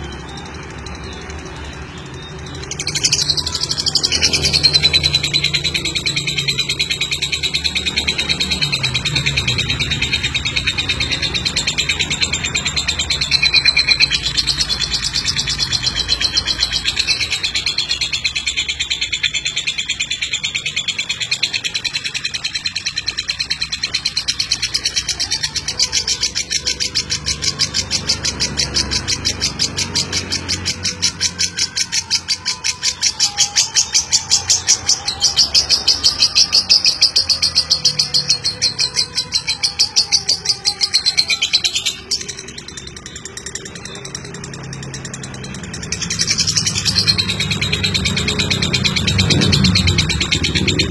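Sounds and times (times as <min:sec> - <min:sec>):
lovebird chattering trill: 0:00.0 - 0:50.9.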